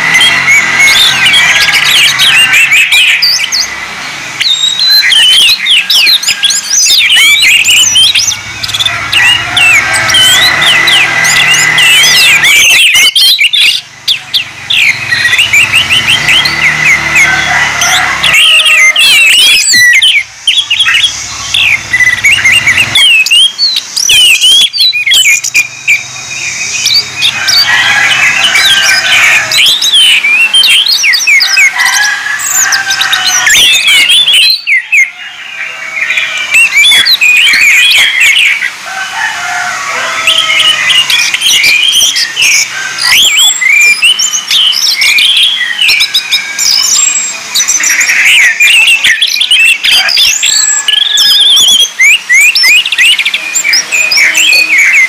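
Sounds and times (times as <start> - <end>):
thrushes singing: 0.0 - 55.0.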